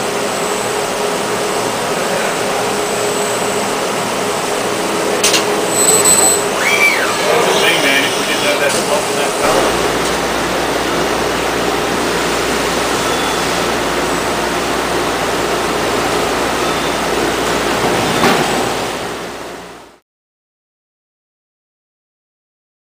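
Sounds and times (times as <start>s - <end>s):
grinding machine rushing noise: 0.0s - 19.6s.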